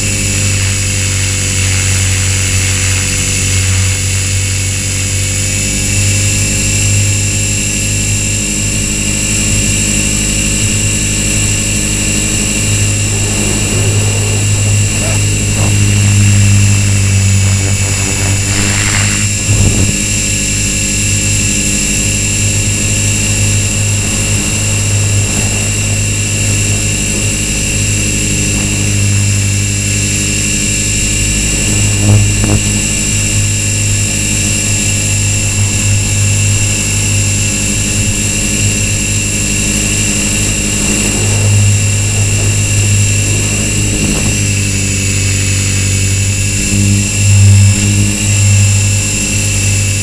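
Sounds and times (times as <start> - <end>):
rc helicopter rotor hum: 0.0 - 50.0.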